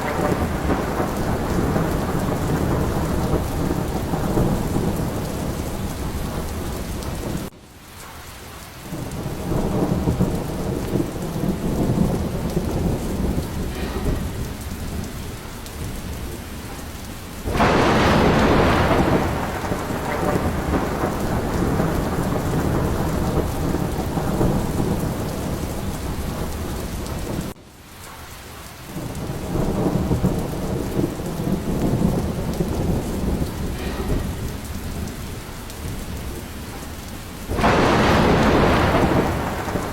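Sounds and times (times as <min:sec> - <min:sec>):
loud thunderclap: 0:00.0 - 0:07.5, 0:08.9 - 0:27.6, 0:29.0 - 0:39.9
rolling thunder: 0:00.0 - 0:07.5, 0:08.8 - 0:27.6, 0:28.9 - 0:39.9
heavy rain: 0:00.0 - 0:39.9.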